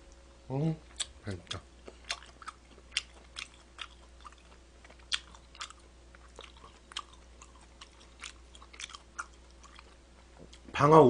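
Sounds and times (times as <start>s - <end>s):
wet chewing smacks and clicks: 0.9s - 10.6s.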